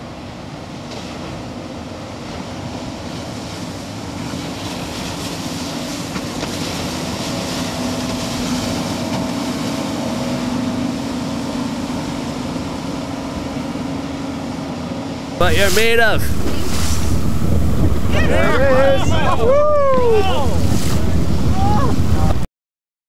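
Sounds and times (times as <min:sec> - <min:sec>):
hull rushing through water: 0:00.0 - 0:22.5
outboard motors running: 0:00.4 - 0:22.4.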